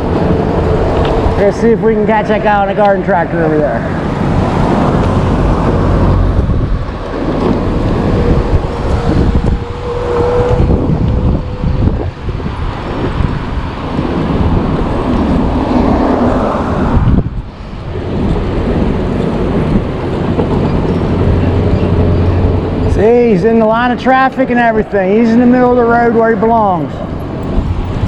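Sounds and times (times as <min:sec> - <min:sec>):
car engine and tyre rumble: 0:00.0 - 0:28.0
steady whine: 0:00.0 - 0:28.0
wind noise on microphone: 0:00.0 - 0:28.0.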